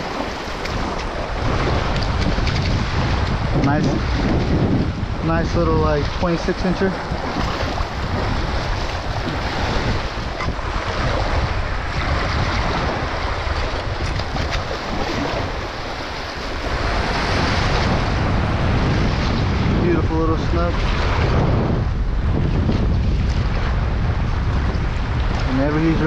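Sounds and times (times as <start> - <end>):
small waves washing over shore: 0.0 - 26.0
wind rumbling on microphone: 0.0 - 26.0.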